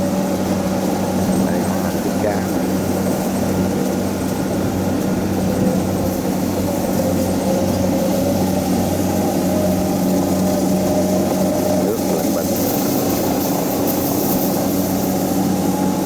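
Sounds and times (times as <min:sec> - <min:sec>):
combine harvester diesel engine: 0:00.0 - 0:16.0.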